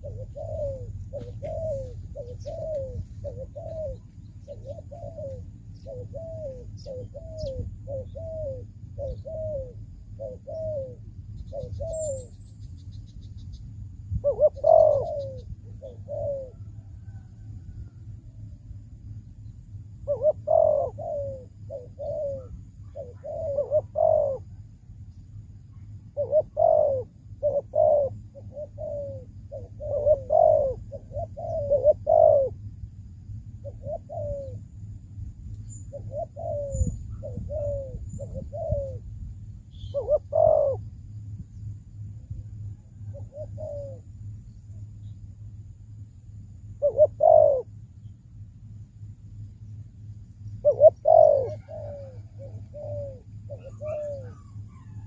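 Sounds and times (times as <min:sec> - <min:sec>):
dove cooing: 0:00.0 - 0:18.1, 0:19.8 - 0:35.0, 0:35.6 - 0:45.5, 0:46.6 - 0:48.2, 0:49.0 - 0:55.0
steady low hum: 0:00.0 - 0:55.0.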